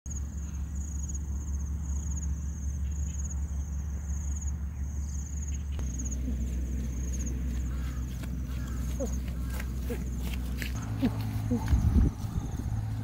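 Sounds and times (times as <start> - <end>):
steady low rumble: 0.1 - 13.0.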